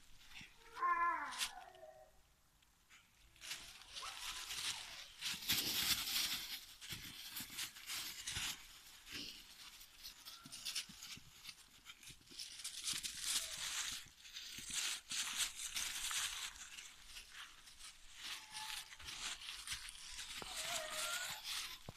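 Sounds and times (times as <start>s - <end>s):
dry leaves crunching under paws: 0.2s - 1.9s, 3.4s - 21.9s.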